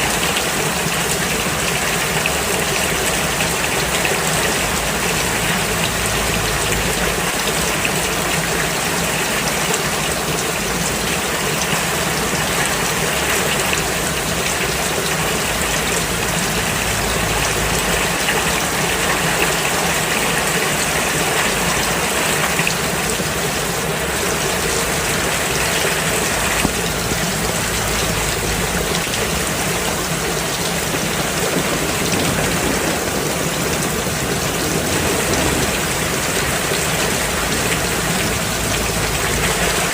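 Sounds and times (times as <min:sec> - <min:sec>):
rain falling on a road: 0:00.0 - 0:39.9.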